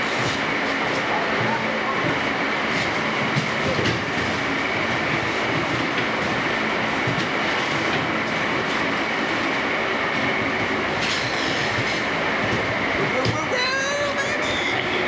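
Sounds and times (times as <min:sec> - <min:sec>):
concrete pump rumble and hiss: 0:00.0 - 0:15.0.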